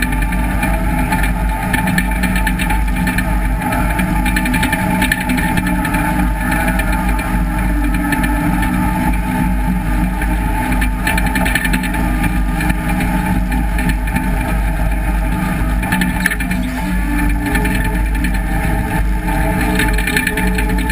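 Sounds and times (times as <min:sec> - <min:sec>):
rattle of steel tracks: 0:00.0 - 0:20.9.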